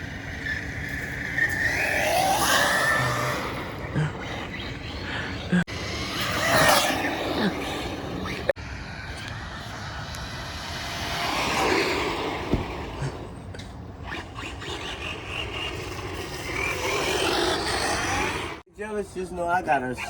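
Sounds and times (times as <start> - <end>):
rc car engine passing: 0.0 - 18.6.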